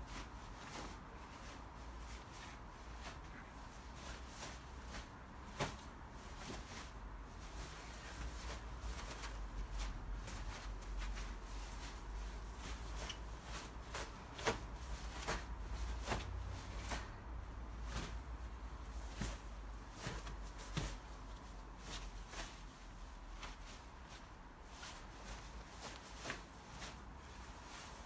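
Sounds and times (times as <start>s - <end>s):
clothing rustling snaps: 0.0s - 28.0s.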